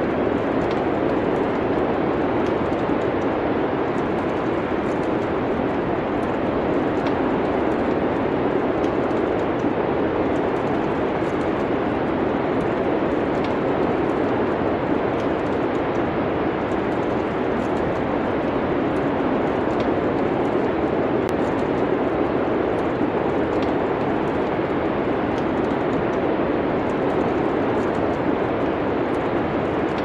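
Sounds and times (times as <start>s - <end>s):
wood fire crackles: 0.0s - 30.0s.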